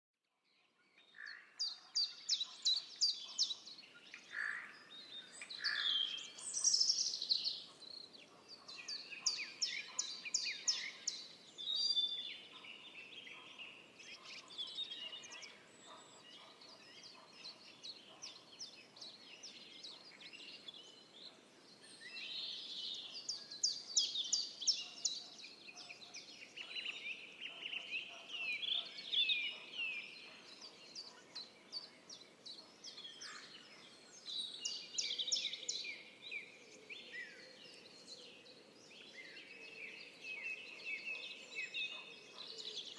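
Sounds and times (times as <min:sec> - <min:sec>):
songbirds trilling and chirping: 0:00.5 - 0:42.9.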